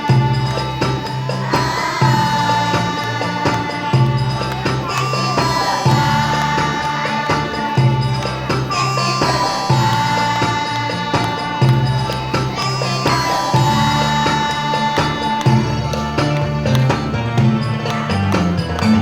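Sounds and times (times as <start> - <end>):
music with steady beat: 0.0 - 19.0.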